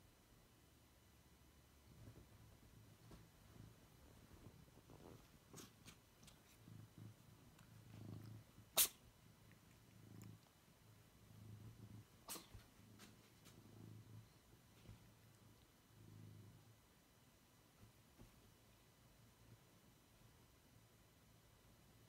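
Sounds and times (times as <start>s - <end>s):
cat purring: 1.1s - 22.0s.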